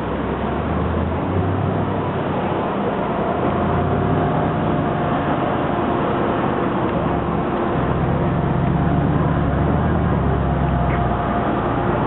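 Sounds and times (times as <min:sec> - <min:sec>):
car engine running at low speed: 0:00.0 - 0:12.0
deeper engine hum: 0:00.0 - 0:12.0
street traffic: 0:00.0 - 0:12.0.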